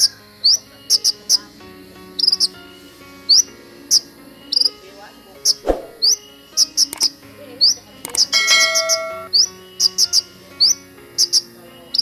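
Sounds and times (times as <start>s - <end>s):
sunbird chirping: 0.0s - 12.0s.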